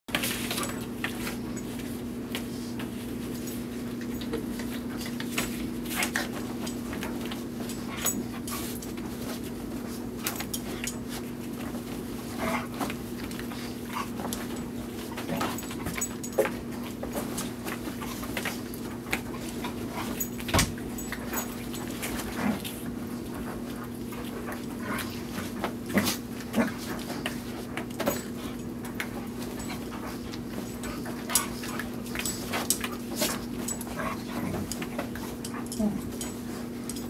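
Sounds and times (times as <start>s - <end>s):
dogs scuffling: 0.1s - 37.0s
paws thumping on bedding: 0.1s - 37.0s.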